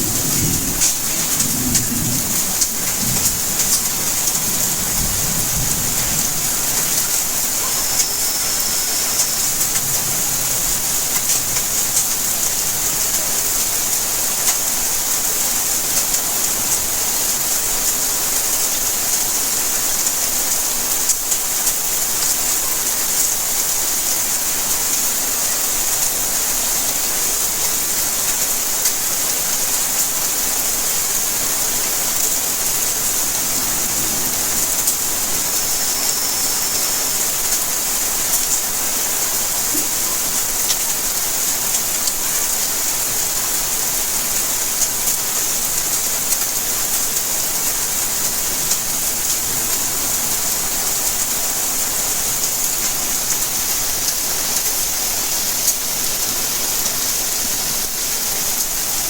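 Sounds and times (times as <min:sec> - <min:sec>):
raindrops ticking on surfaces: 0:00.0 - 0:59.0
steady rain: 0:00.0 - 0:59.0.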